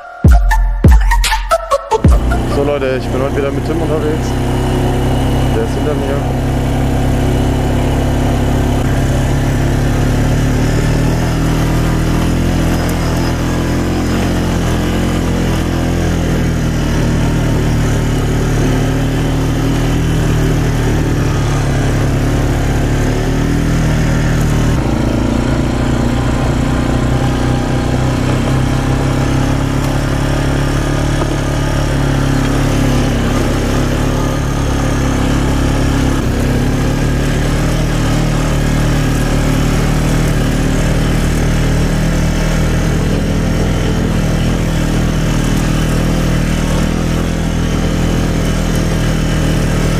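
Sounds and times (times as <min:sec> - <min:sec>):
quad bike engine running: 0:01.9 - 0:49.9.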